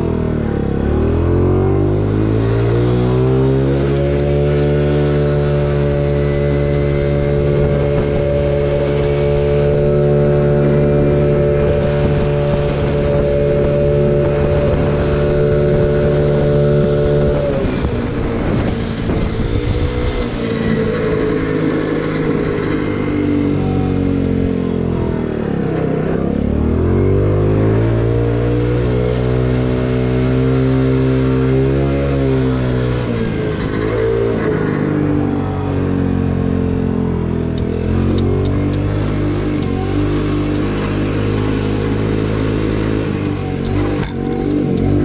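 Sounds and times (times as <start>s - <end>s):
scooter engine running: 0.0s - 45.0s.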